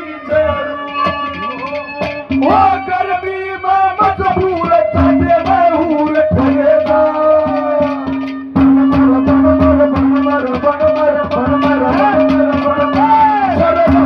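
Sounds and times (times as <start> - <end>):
hand-drum strokes: 0.0 - 14.0
wavering melody line: 0.0 - 14.0.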